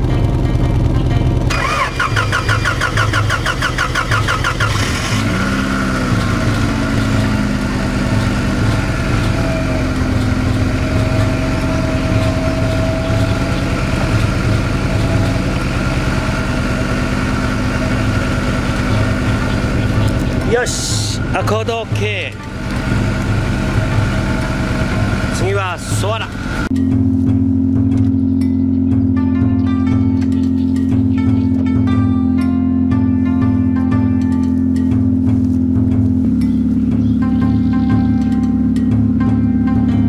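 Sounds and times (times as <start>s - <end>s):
car engine cranking: 0.0s - 40.0s
car engine idling: 0.0s - 40.0s.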